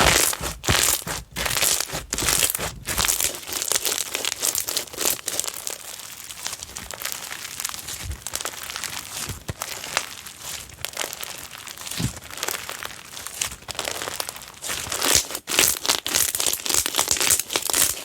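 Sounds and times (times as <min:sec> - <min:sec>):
slime crackling and popping: 0:00.0 - 0:18.0.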